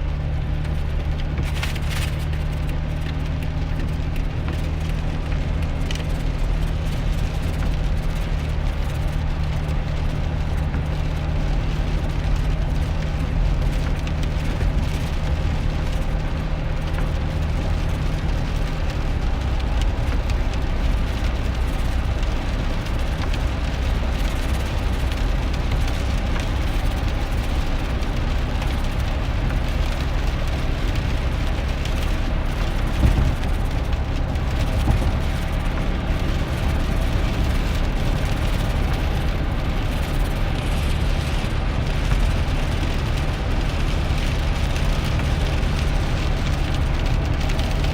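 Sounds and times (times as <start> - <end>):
engine drone: 0.0 - 47.9
rain on vehicle: 0.0 - 47.9.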